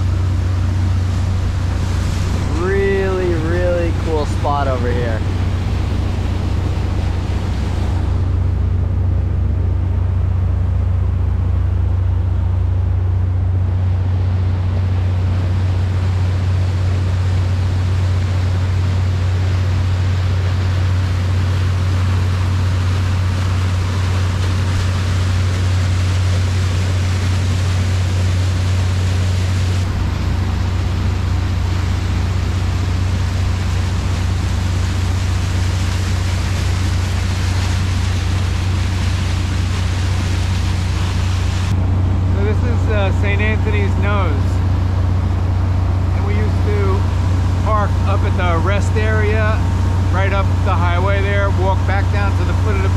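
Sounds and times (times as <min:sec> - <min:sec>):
boat engine droning: 0:00.0 - 0:52.9
water rushing along hull: 0:00.0 - 0:52.9.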